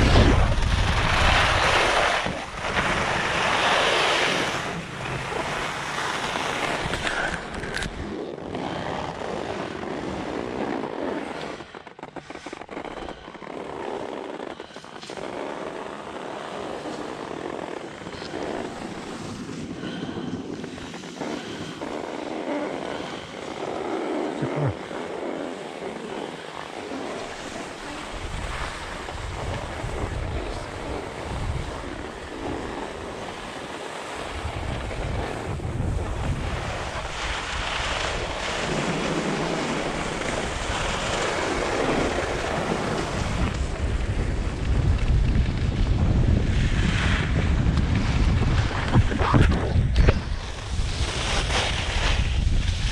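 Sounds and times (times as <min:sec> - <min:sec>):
wind buffeting microphone: 0:00.0 - 0:08.2, 0:16.7 - 0:52.9
skis scraping over snow: 0:00.0 - 0:52.9.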